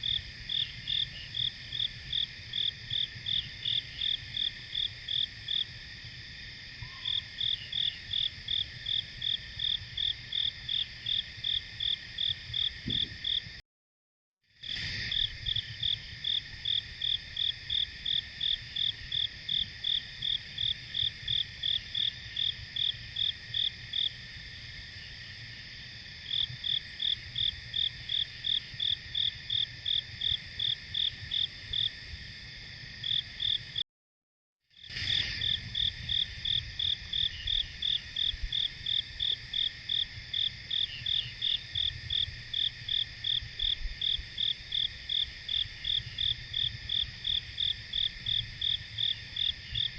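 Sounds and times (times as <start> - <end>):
high hum of insects: 0.0 - 13.6, 14.5 - 33.8, 34.7 - 49.9
insect chirping: 0.0 - 13.6, 14.6 - 33.8, 34.7 - 49.9.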